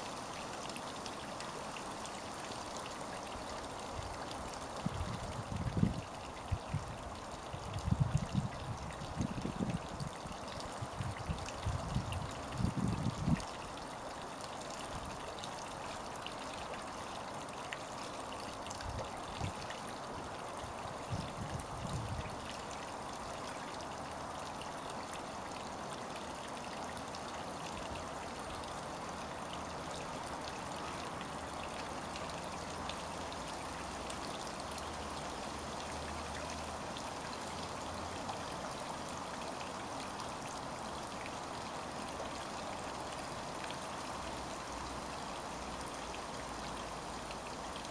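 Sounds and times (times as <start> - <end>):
trickling pond water: 0.0 - 47.9.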